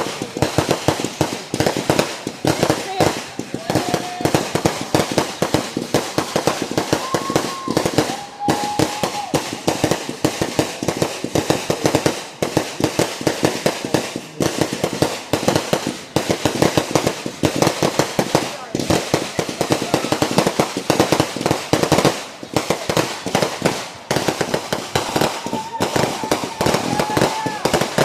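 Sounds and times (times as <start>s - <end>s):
firecrackers cracking: 0.0s - 28.0s.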